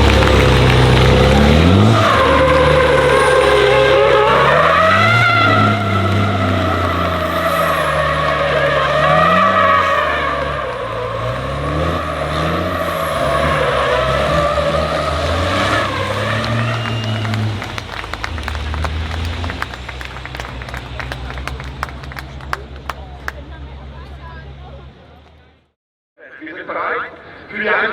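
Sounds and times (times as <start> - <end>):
race engines revving: 0.0 - 25.6.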